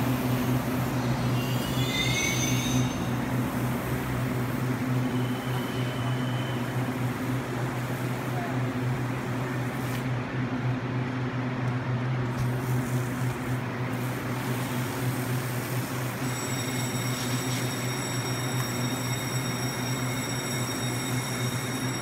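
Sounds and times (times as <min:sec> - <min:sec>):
train equipment humming: 0:00.0 - 0:22.0.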